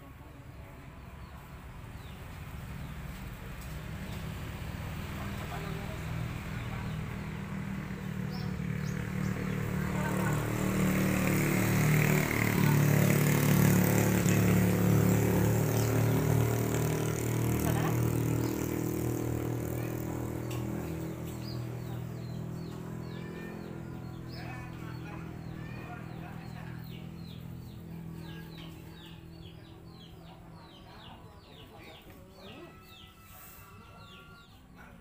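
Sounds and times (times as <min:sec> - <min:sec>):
vehicle engine passing by: 0:00.0 - 0:35.0.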